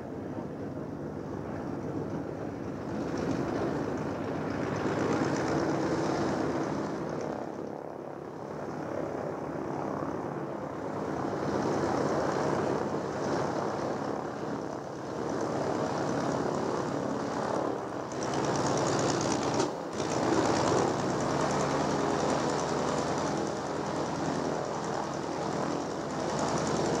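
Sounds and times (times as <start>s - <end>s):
biplane engine running: 0.0s - 27.0s.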